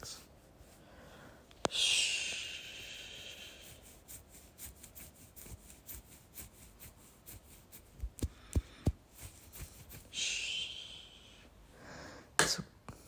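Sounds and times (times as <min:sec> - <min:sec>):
hand rubbing strokes: 0:00.0 - 0:11.4.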